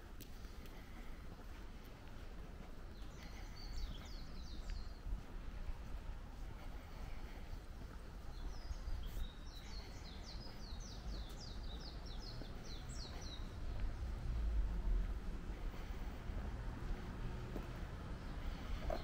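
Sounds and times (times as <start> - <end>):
low outdoor rumble: 0.0 - 19.0
songbird chirping: 0.0 - 19.0.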